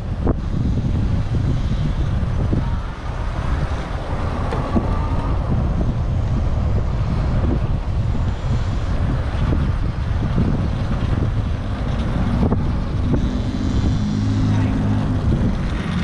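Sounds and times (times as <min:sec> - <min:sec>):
low rumble of road noise: 0:00.0 - 0:16.0
wind buffeting microphone: 0:00.0 - 0:16.0.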